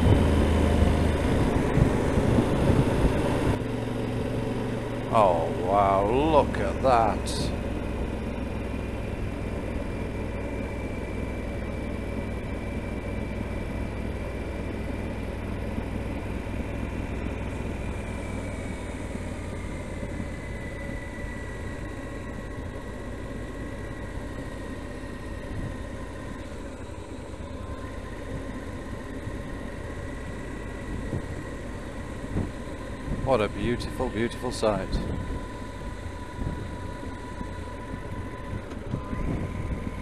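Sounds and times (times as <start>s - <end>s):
faint high whine: 0.0s - 40.0s
motorcycle engine cruising: 0.0s - 40.0s
wind and road noise: 0.0s - 40.0s.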